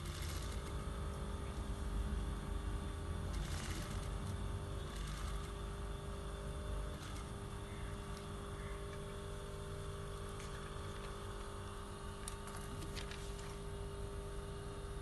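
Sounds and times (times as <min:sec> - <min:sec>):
sewing machine humming: 0:00.0 - 0:14.2.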